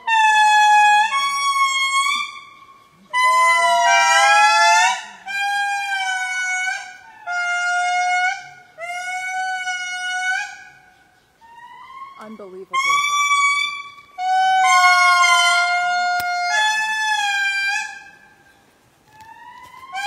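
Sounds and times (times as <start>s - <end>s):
lemurs wailing calls: 0.0s - 20.0s.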